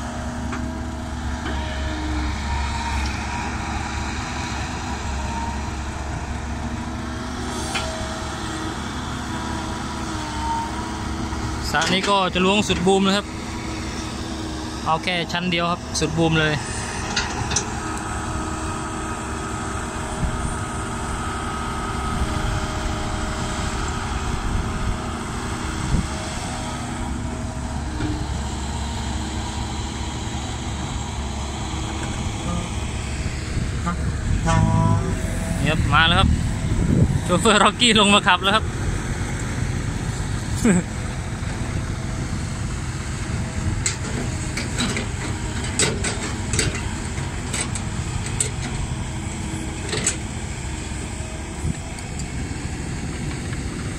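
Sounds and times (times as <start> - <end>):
diesel machinery engine droning: 0.0 - 53.9.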